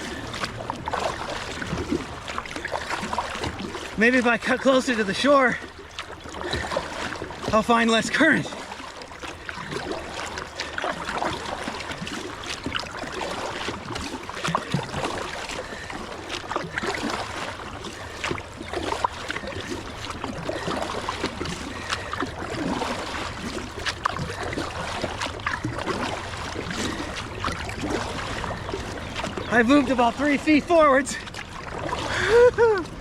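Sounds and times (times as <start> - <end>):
kayak paddle splashing: 0.0 - 33.0
rush of moving water: 0.0 - 33.0
water washing along hull: 0.0 - 33.0.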